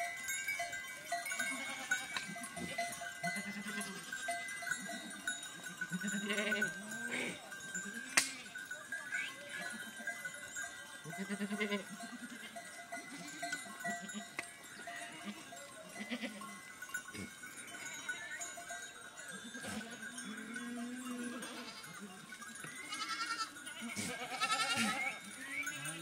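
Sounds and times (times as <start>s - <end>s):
goats and sheep bleating: 1.2s - 10.2s, 11.0s - 18.6s, 19.4s - 26.0s.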